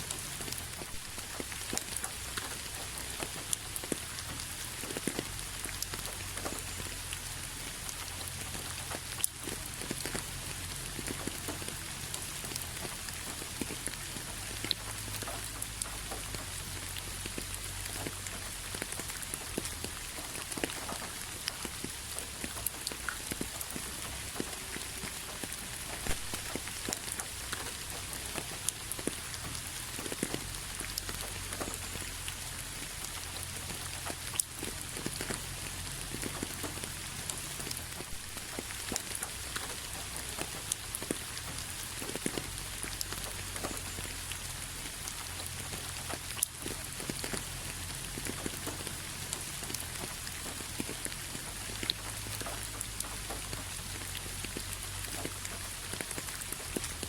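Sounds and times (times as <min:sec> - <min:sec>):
rain on a hard surface: 0:00.0 - 0:57.0.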